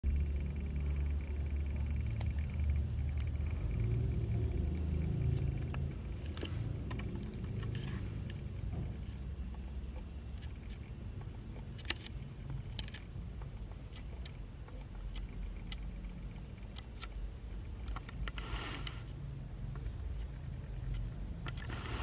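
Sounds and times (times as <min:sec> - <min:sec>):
ceiling fan humming: 0:00.0 - 0:22.0.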